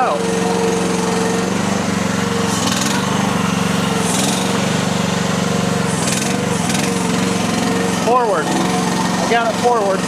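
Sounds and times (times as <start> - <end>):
small engine running under load: 0.0 - 10.0.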